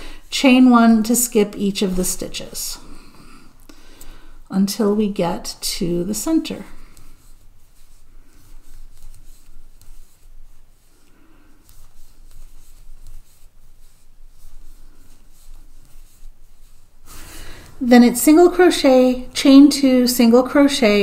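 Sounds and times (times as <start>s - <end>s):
scratchy yarn rustling: 0.0s - 21.0s.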